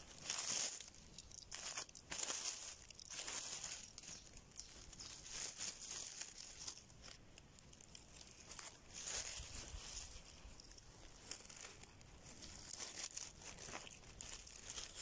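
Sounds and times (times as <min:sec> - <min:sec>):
dry leaves rustling: 0:00.0 - 0:15.0.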